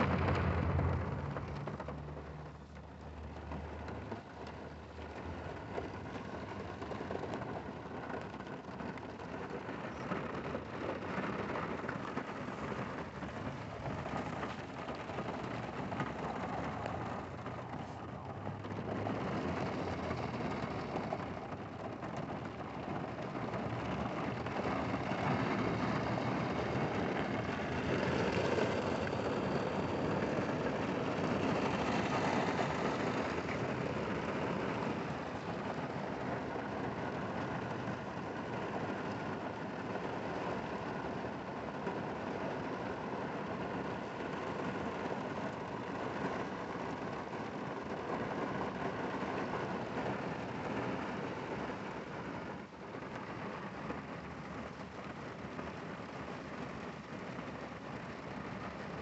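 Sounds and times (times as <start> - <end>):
car rumble: 0.0 - 59.0
rain on car windows and roof: 0.0 - 59.0.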